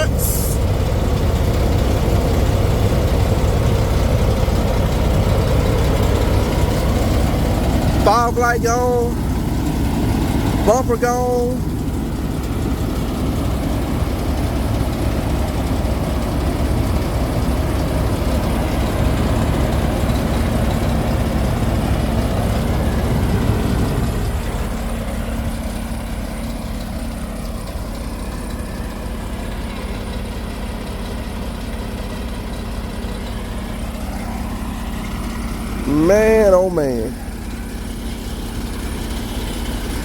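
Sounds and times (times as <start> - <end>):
truck diesel engine idling: 0.0 - 40.0.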